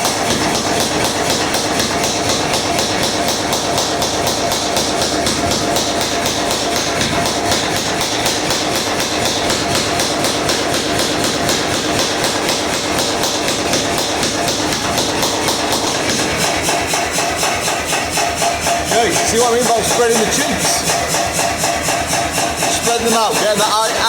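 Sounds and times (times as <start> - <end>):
power hammer striking steel: 0.0 - 24.0
steady machine hum: 0.0 - 24.0.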